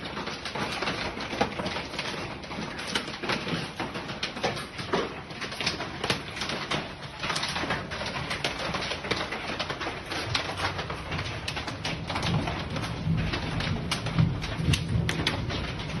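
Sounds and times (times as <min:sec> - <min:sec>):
hail clattering on hard surfaces: 0:00.0 - 0:16.0.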